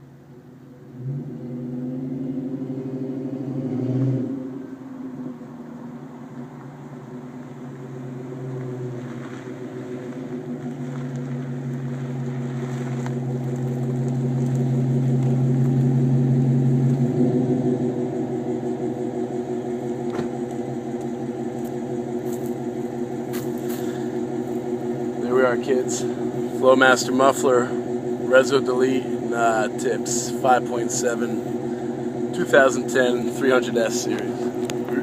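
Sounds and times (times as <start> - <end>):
car exhaust low drone: 0.0 - 35.0.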